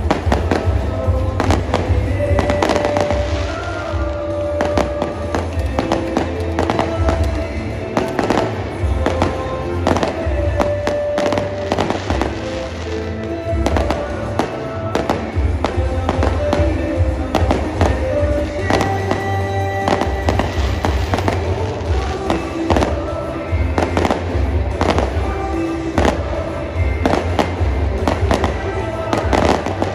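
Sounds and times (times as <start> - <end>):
fireworks bursting with bangs: 0.0 - 29.9
music playing: 0.0 - 29.9.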